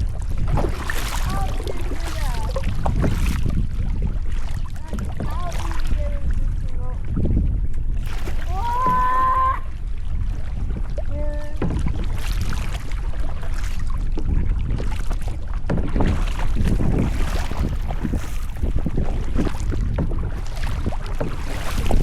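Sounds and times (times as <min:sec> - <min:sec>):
paddle splashing water: 0:00.0 - 0:22.0
wind rumble on microphone: 0:00.0 - 0:22.0.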